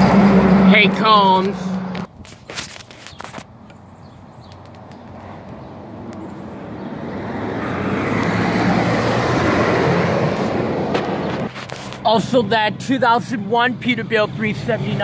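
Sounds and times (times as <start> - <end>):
truck engine and tyre noise: 0.0 - 15.0.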